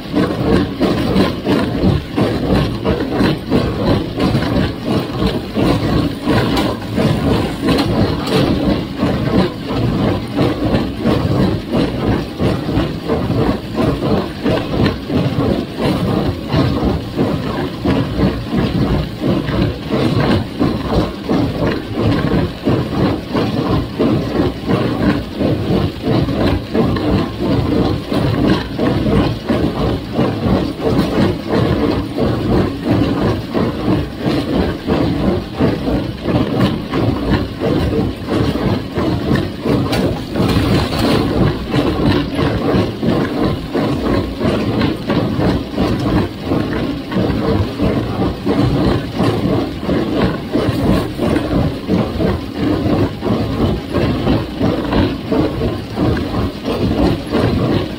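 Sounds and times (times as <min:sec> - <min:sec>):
rhythmic baler clatter: 0:00.0 - 0:57.9
tractor engine running: 0:00.0 - 0:57.9.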